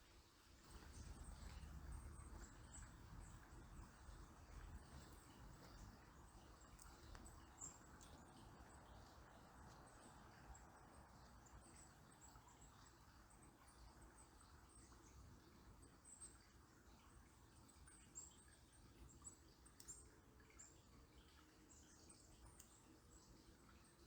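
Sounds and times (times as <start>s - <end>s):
small birds chirping: 0.6s - 24.0s.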